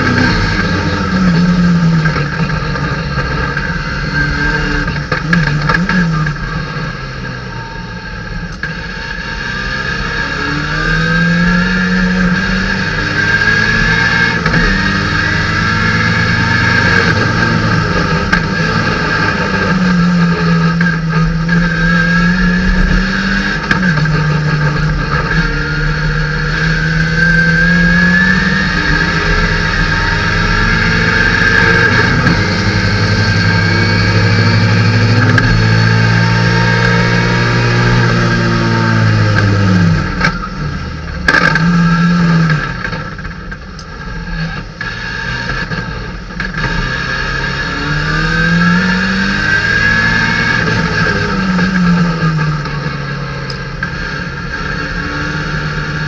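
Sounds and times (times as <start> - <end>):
race car engine under hard throttle: 0.0 - 56.0.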